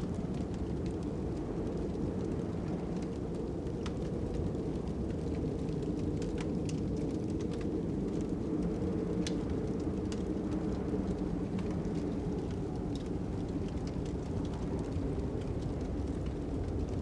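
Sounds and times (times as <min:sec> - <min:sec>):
fire crackling: 0:00.0 - 0:17.0
fire popping: 0:00.1 - 0:17.0.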